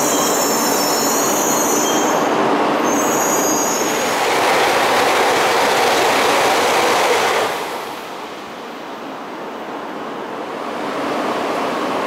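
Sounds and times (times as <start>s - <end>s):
high-speed train rushing past: 0.0s - 12.0s.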